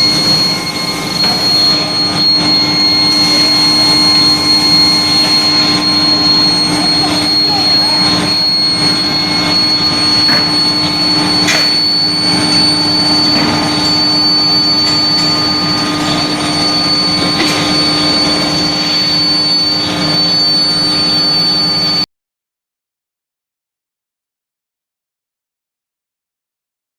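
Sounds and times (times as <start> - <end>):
industrial furnace hum: 0.0 - 22.0
high-pitched whine: 0.0 - 22.1.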